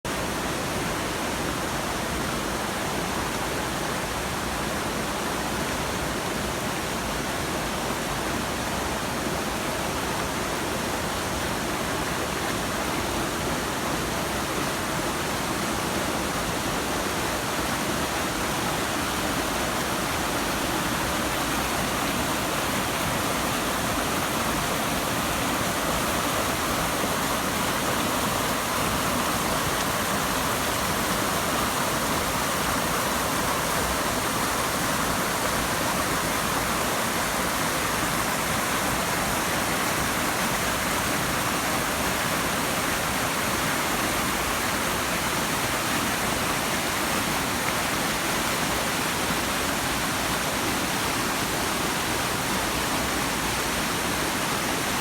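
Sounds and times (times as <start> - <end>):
waterfall roaring: 0.2 - 55.0.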